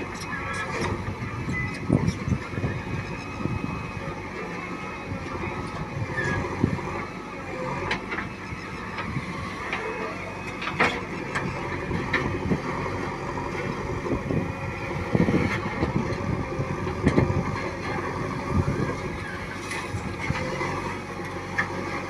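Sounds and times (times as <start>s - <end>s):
diesel machinery engines: 0.0s - 22.0s.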